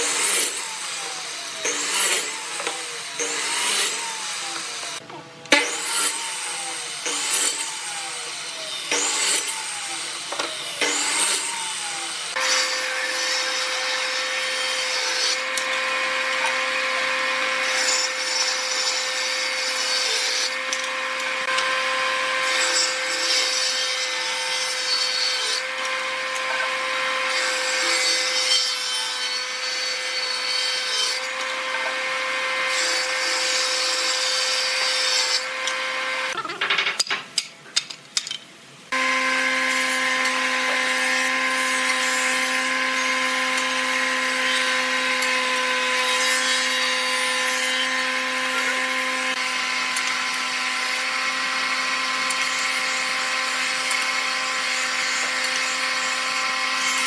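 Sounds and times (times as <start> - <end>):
table saw cutting wood: 0.0 - 36.4, 38.9 - 57.0.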